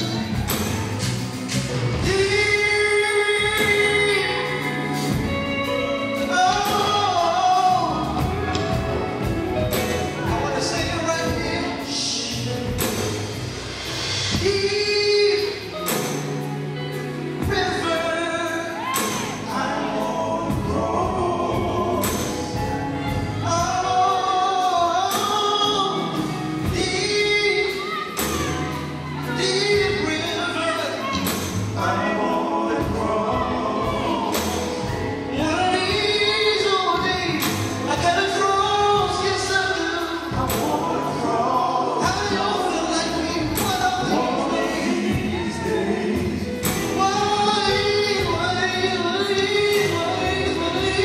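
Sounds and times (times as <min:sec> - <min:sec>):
live band playing: 0:00.0 - 0:51.0
vocal group singing: 0:00.0 - 0:51.0
man singing lead: 0:02.0 - 0:12.9, 0:14.3 - 0:16.3, 0:17.4 - 0:51.0.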